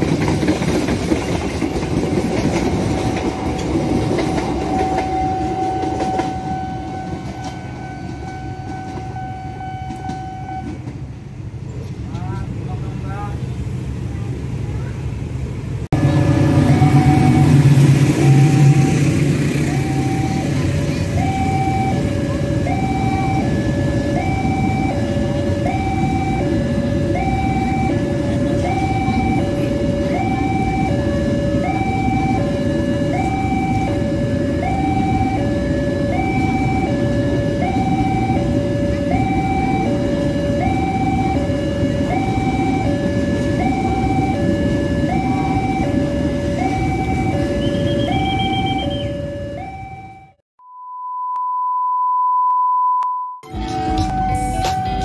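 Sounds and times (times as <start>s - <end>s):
train wheels rumbling on rails: 0.0s - 49.0s
diesel locomotive engine rumble: 0.0s - 50.2s, 53.4s - 55.0s
two-tone crossing alarm: 1.7s - 10.9s, 16.0s - 55.0s.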